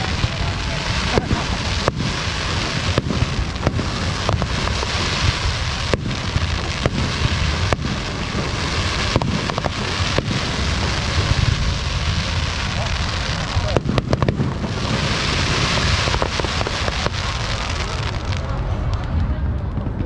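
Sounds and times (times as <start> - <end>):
crackle of sparkling shells: 0.0 - 19.2
firework bangs: 0.0 - 20.0.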